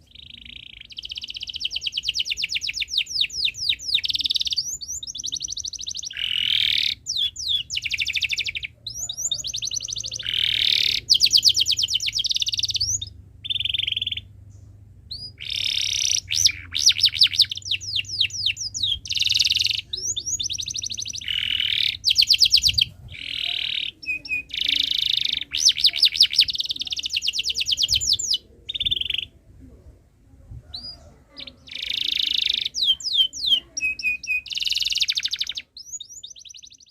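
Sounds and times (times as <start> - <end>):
canary singing trills and chirps: 0.0 - 14.4, 15.1 - 29.4, 30.7 - 36.9.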